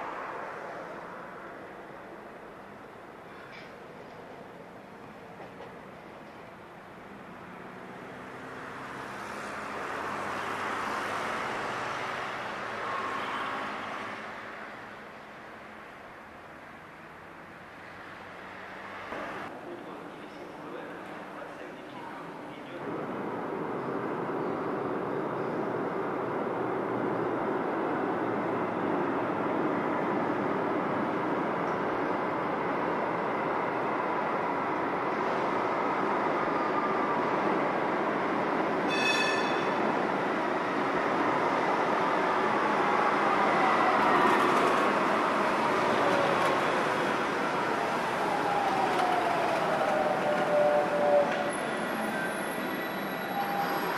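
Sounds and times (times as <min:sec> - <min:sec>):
tram rolling noise: 0:00.0 - 0:53.9.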